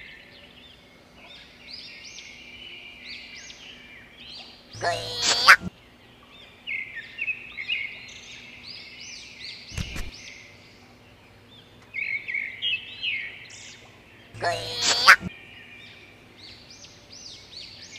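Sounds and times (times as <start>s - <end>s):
songbirds twittering: 0.0s - 17.9s.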